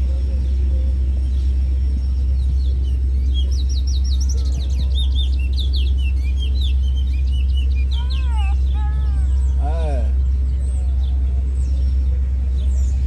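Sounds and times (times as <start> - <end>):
birds chirping: 0.0 - 13.0
lower arched bird calls: 0.0 - 13.0
steady low rumble: 0.0 - 13.0.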